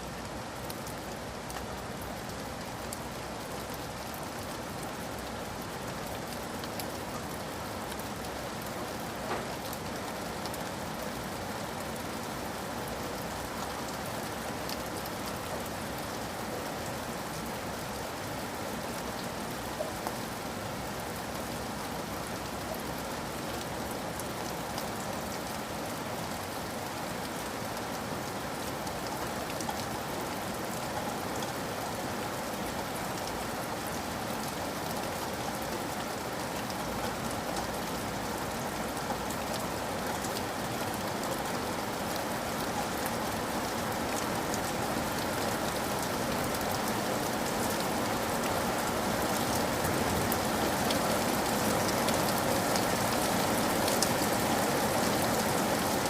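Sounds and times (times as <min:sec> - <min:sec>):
rain drops pattering: 0:00.0 - 0:56.0.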